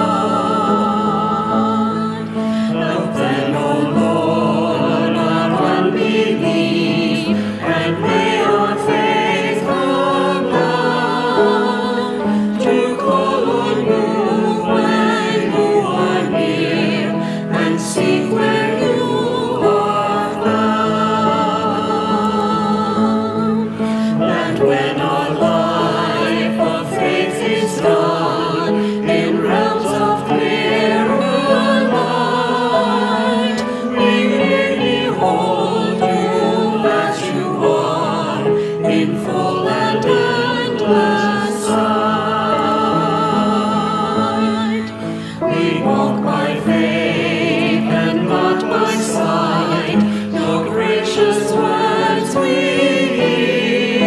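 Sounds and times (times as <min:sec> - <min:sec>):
mixed choir singing a hymn: 0:00.0 - 0:54.0
piano accompaniment: 0:00.0 - 0:54.0.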